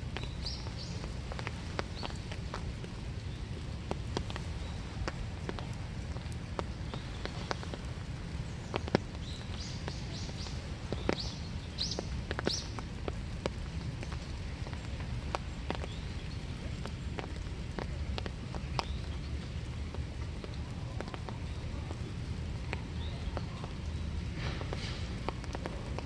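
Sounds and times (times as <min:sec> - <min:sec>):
rain drops tapping: 0:00.0 - 0:26.0.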